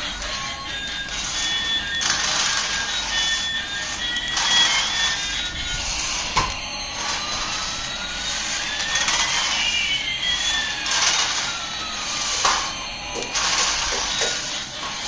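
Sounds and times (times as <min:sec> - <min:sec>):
toy jet engine sound effect: 0:00.0 - 0:15.0.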